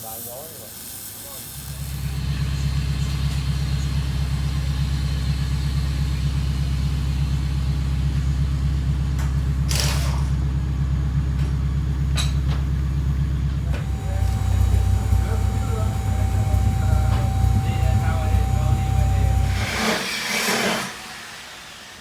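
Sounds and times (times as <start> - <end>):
car engine idling: 1.7 - 19.7.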